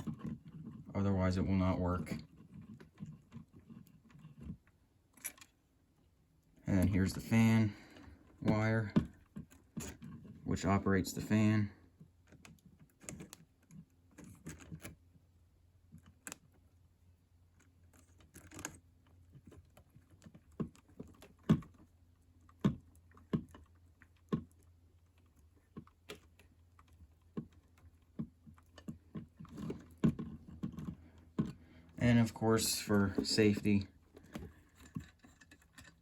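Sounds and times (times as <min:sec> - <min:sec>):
hands handling electrical wires: 0:00.0 - 0:15.1, 0:17.5 - 0:36.0.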